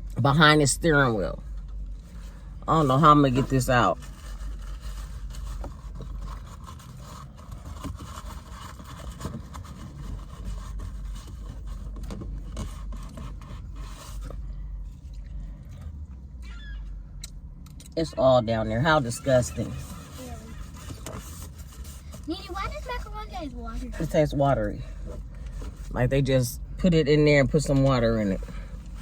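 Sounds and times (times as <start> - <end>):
steady low hum: 0.0 - 29.0
scraping and rustling handling noises: 1.4 - 16.3, 18.8 - 26.1, 27.5 - 29.0.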